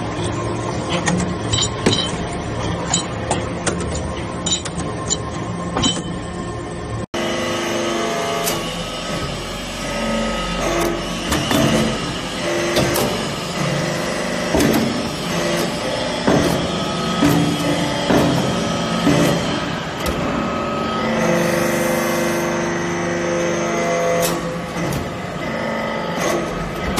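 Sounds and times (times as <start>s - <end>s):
hydraulic press droning: 0.0s - 26.9s.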